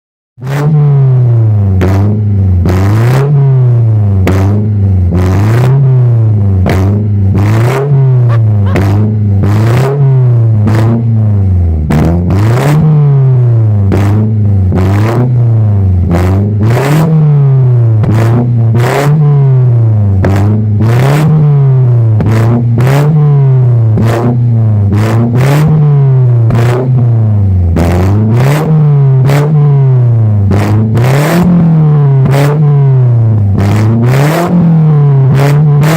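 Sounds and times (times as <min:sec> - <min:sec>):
car engine revving: 0:00.4 - 0:35.9.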